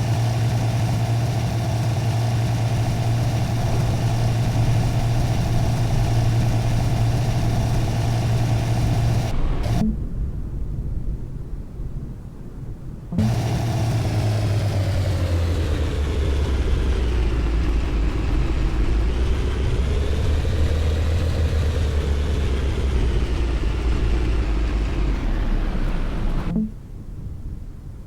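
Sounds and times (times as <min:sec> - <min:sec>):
car engine humming: 0:00.0 - 0:10.0, 0:13.1 - 0:26.8
road noise: 0:00.0 - 0:10.2, 0:13.1 - 0:26.7.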